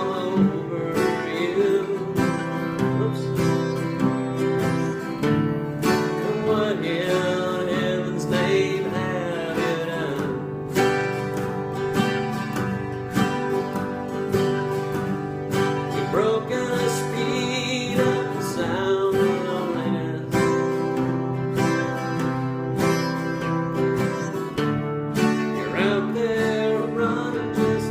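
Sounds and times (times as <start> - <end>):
acoustic guitar strummed chords: 0.0 - 27.9
wavering guitar melody: 0.0 - 27.9.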